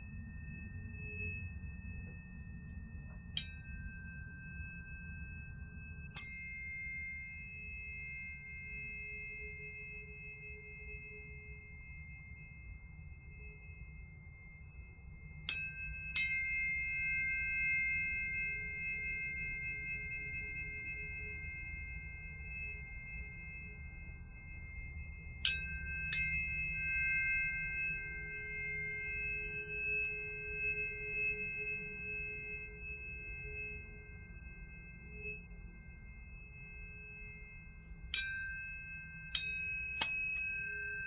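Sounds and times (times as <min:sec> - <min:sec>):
high tuning fork ringing: 0:00.0 - 0:41.0
tuning fork metallic clang: 0:00.0 - 0:41.0.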